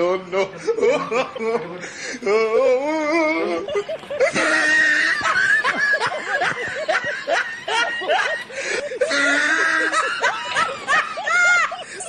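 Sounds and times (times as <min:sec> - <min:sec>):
people laughing and snickering: 0:00.0 - 0:12.0.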